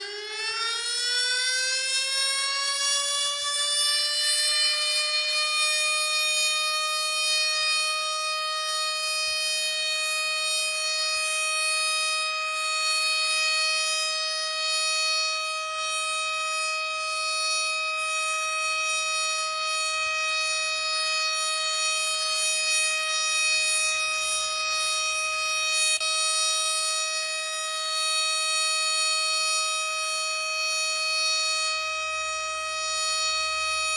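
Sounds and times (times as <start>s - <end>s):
civil defence siren wailing: 0.0s - 33.9s.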